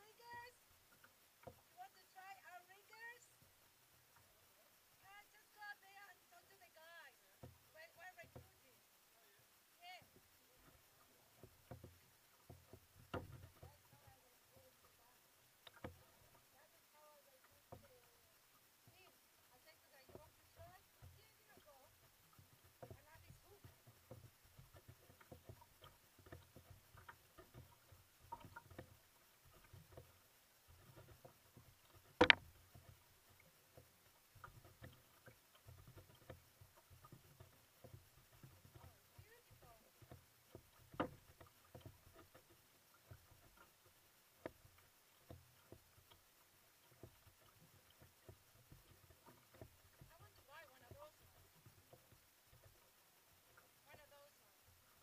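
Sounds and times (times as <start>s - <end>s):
paddle knocking against hull: 0.0s - 2.2s, 6.5s - 8.6s, 10.0s - 15.0s, 15.6s - 55.0s
canoe paddle in water: 0.0s - 55.0s.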